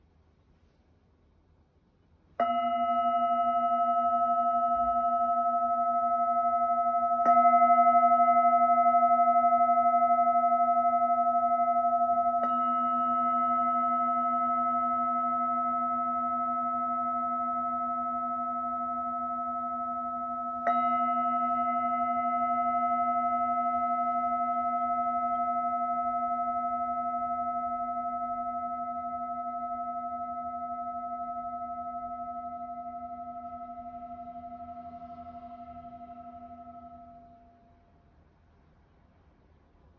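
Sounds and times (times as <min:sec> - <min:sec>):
singing bowl struck and ringing: 0:02.4 - 0:37.9.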